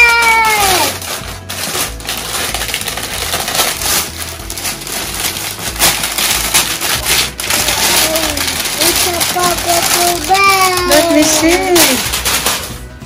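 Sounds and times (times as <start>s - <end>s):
foil wrap crinkling: 0.0s - 13.0s.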